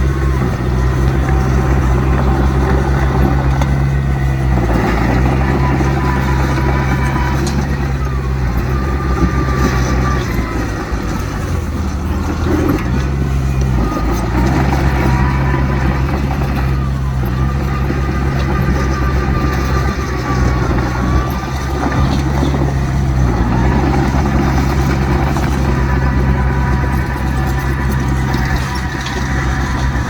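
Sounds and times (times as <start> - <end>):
diesel machinery engine drone: 0.0 - 30.0.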